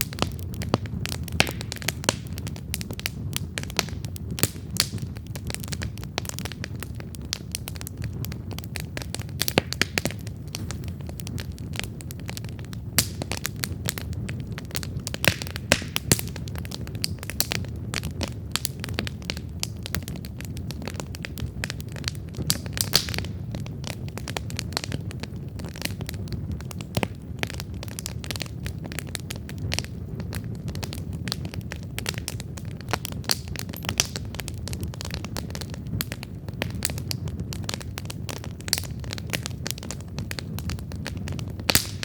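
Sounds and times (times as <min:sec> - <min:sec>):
campfire crackling and popping: 0:00.0 - 0:42.0
low rumble of flames: 0:00.0 - 0:42.0.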